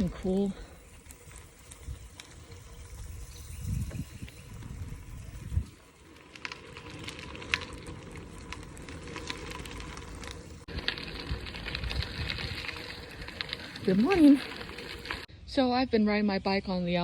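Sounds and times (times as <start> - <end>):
bicycle riding on trail: 0.0 - 15.3.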